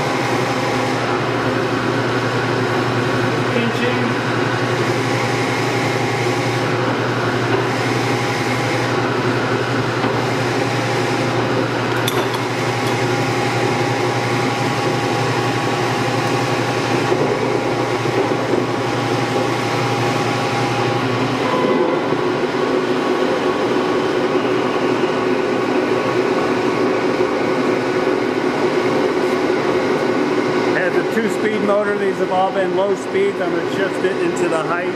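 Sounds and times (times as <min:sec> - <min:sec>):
lathe mechanical hum: 0:00.0 - 0:34.9.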